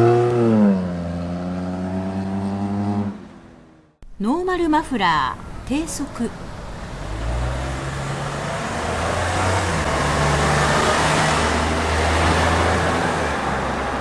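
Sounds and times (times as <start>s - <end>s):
car engine droning: 0.0s - 4.0s, 5.4s - 14.0s.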